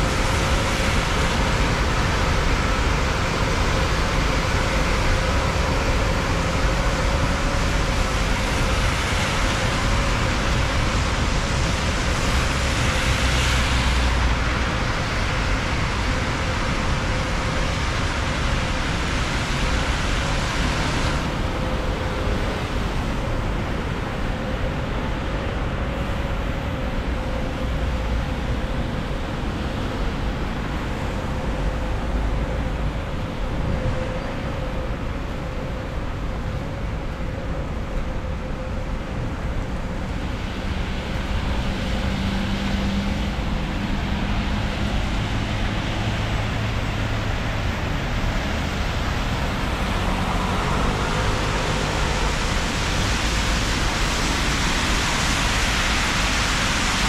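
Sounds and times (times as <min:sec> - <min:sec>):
rain and tyres hissing: 0:00.0 - 0:57.0.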